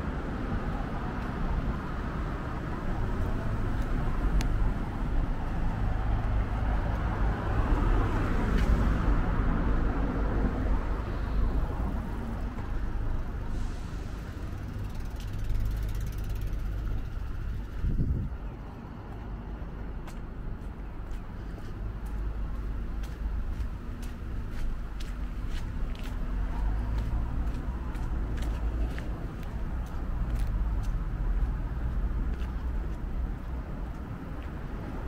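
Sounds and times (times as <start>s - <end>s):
cars passing: 0.0s - 35.0s
low traffic rumble: 0.0s - 35.0s.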